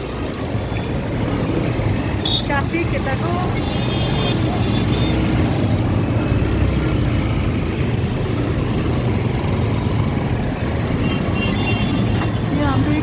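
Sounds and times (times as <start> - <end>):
road noise: 0.0 - 13.0
traffic engine rumble: 0.0 - 13.0.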